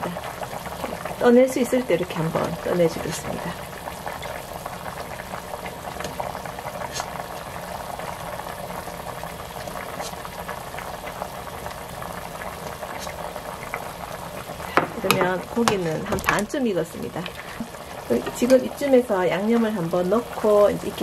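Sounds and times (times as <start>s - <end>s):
water boiling and bubbling: 0.0s - 21.0s.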